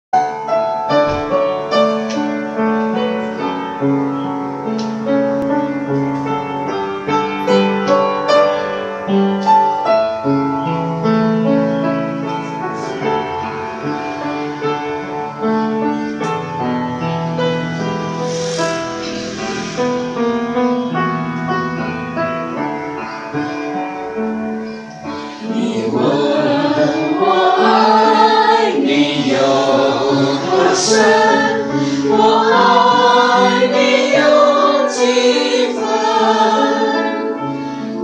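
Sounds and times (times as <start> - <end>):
piano playing slow melody: 0.2 - 38.0.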